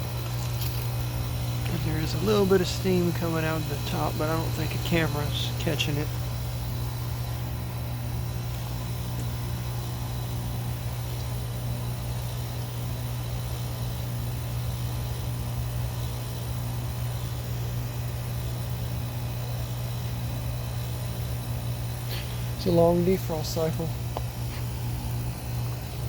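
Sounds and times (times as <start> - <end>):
heat pump compressor hum: 0.0 - 26.0.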